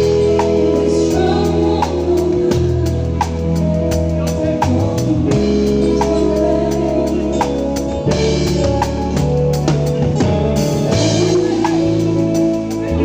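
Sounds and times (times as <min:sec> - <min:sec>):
drum kit beat with cymbals: 0:00.0 - 0:13.0
live band playing: 0:00.0 - 0:13.0.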